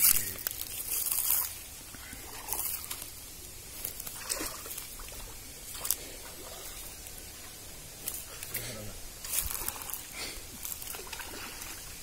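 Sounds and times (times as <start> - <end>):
muddy water splashing and sloshing: 0.0 - 12.0.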